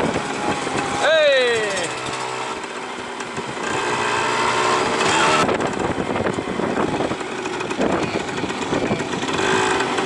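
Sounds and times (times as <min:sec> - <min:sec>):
moped engine running: 0:00.0 - 0:10.0.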